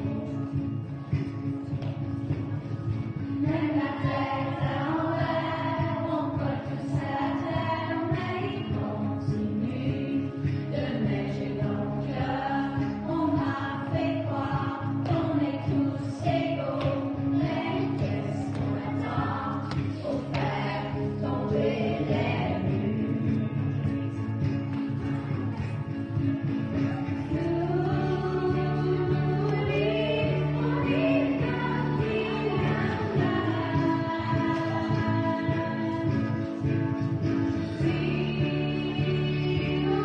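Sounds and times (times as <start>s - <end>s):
instrumental backing music: 0.0s - 40.0s
children singing: 3.4s - 23.5s, 26.7s - 40.0s.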